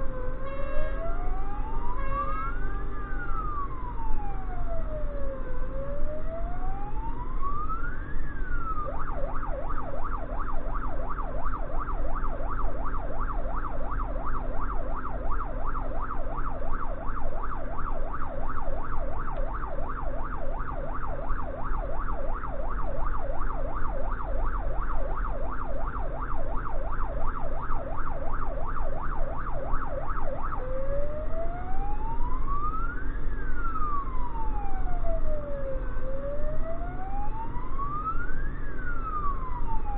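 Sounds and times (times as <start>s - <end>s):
electronic siren wailing and yelping: 0.0s - 39.9s
truck engine drone: 0.0s - 39.9s.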